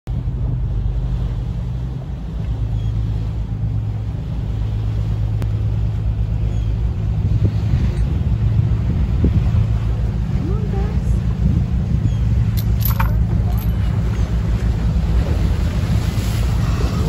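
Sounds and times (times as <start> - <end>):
wind: 0.0 - 17.0
boat engine humming: 0.1 - 17.0
water noise: 0.1 - 17.0.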